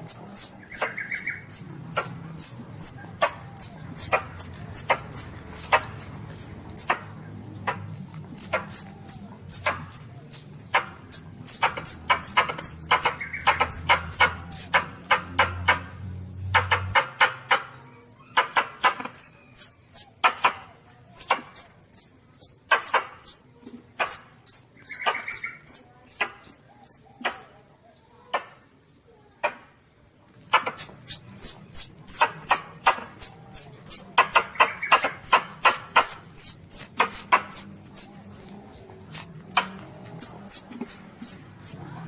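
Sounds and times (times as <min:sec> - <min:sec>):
civet high squeaks: 0:00.0 - 0:07.0, 0:07.7 - 0:14.8, 0:18.4 - 0:27.4, 0:30.6 - 0:42.0.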